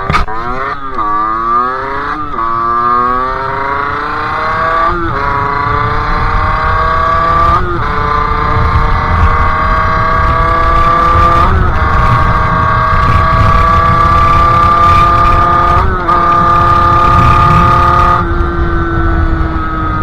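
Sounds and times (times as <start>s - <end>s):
two-stroke engine buzzing at high revs: 0.0s - 20.0s.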